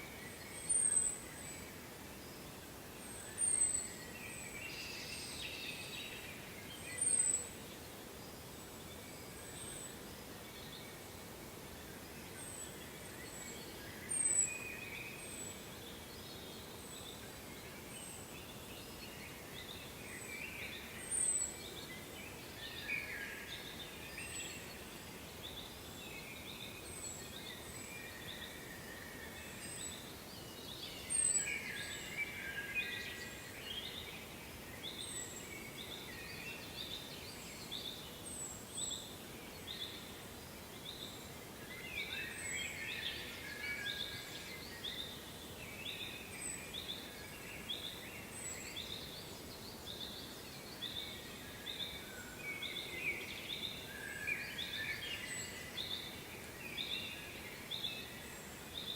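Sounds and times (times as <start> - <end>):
faint background noise: 0.0 - 58.9
small birds chirping: 0.0 - 58.9.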